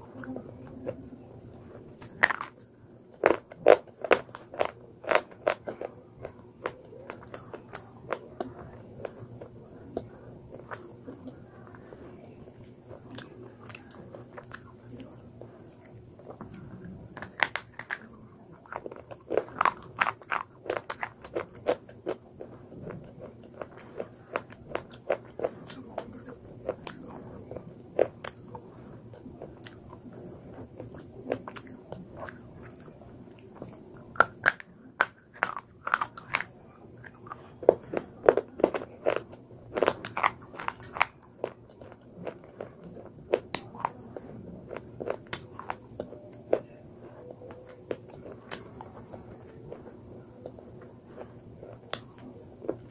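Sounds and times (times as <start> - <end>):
crunchy chewing: 0.1 - 52.9.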